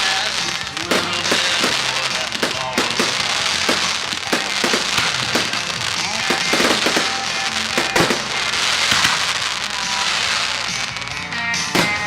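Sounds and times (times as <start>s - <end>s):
fireworks bangs and crackling: 0.0s - 12.0s
music playing: 0.0s - 12.0s.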